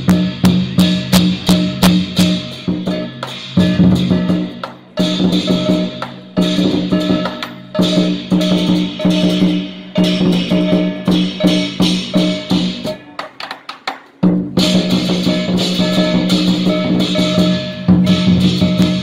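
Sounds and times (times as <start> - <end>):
large drum beating: 0.0 - 13.2, 14.2 - 19.0
hand cymbals clashing: 0.0 - 13.4, 14.2 - 19.0.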